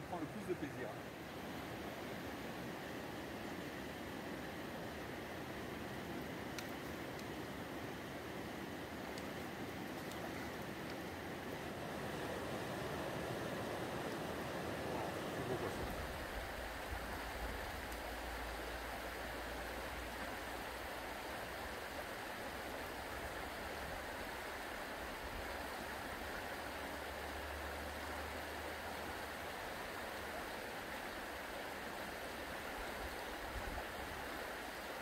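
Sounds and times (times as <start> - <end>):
river rushing over stones: 0.0 - 35.0.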